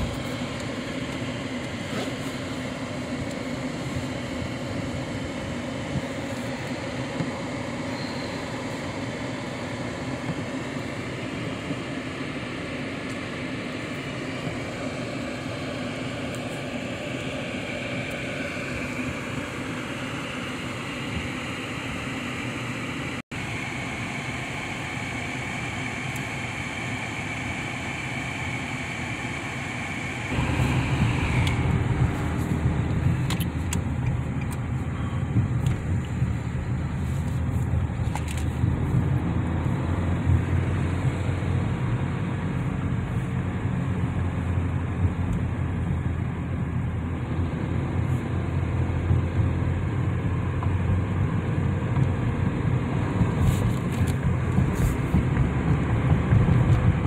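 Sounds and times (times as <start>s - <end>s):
car interior road noise: 0.0s - 57.0s.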